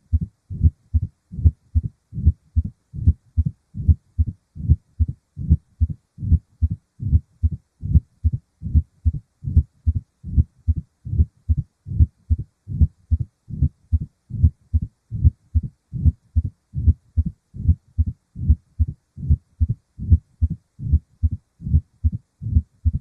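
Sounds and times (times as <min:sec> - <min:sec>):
heartbeat thumps: 0:00.1 - 0:23.0
low rumbling heart murmur: 0:00.1 - 0:23.0.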